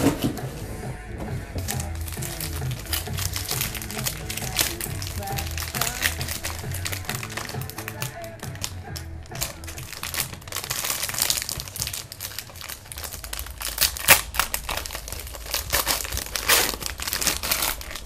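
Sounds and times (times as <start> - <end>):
wrappers crinkling and tearing: 1.6 - 18.0.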